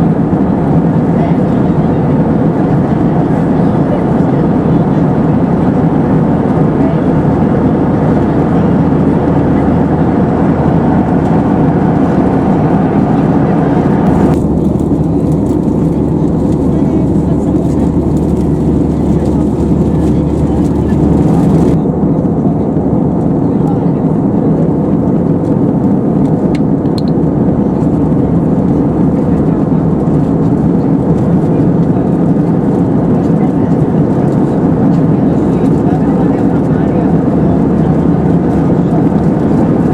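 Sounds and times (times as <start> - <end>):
aircraft engine drone: 0.0 - 39.9
airflow rush in plane cabin: 0.0 - 39.9.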